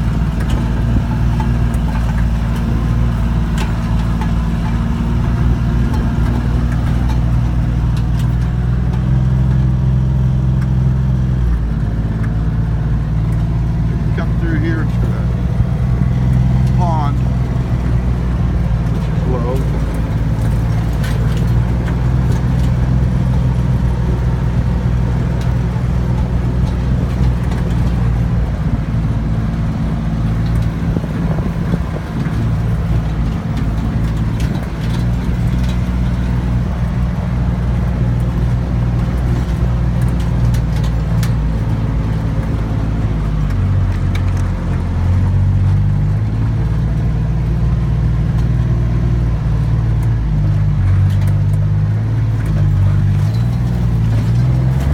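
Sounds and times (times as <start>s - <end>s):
vehicle engine droning: 0.0s - 54.9s.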